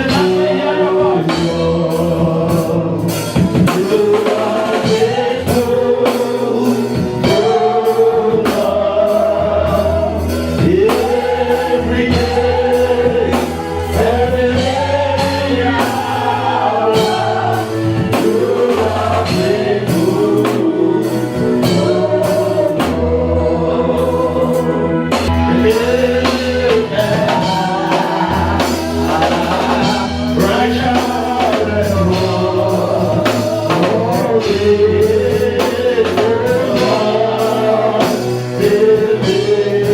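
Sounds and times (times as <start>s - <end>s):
band playing: 0.0s - 39.9s
voices singing: 0.0s - 39.9s.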